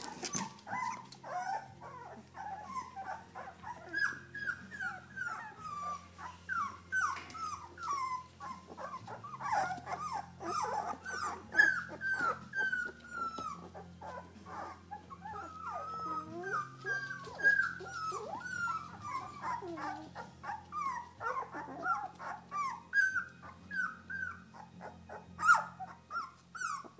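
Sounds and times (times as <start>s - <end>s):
puppies squeaking and whimpering: 0.0s - 26.9s.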